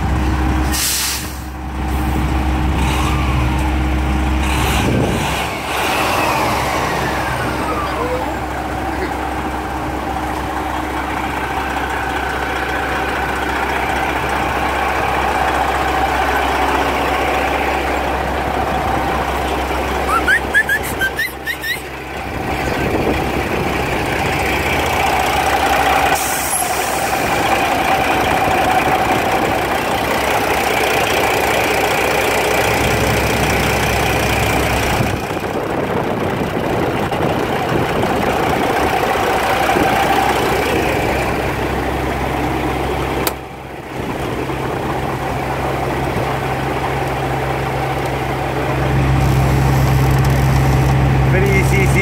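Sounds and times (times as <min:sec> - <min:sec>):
truck diesel engine idling: 0:00.0 - 0:52.0.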